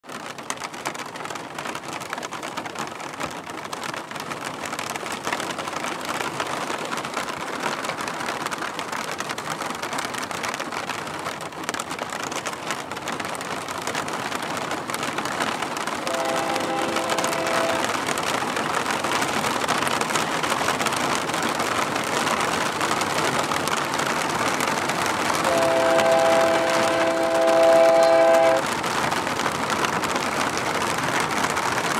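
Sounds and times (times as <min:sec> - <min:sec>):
rain falling: 0:00.0 - 0:31.9
raindrops ticking close by: 0:00.0 - 0:31.9.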